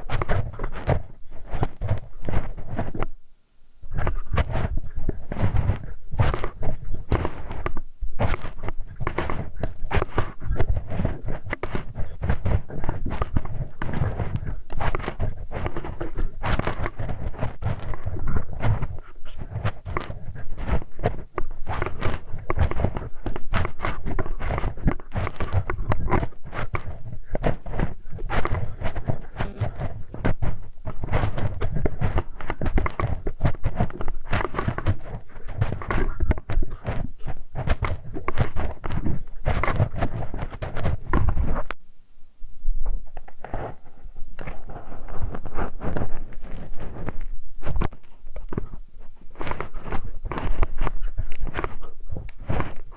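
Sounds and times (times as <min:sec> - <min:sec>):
close scratching and scraping: 0:00.0 - 0:03.1, 0:03.9 - 0:41.8, 0:42.8 - 0:52.9.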